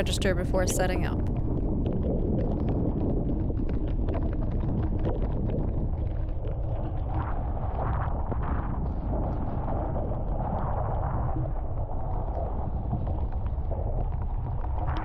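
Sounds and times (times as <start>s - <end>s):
wind rumble: 0.0s - 15.0s
rain pattering on a car: 1.3s - 15.0s.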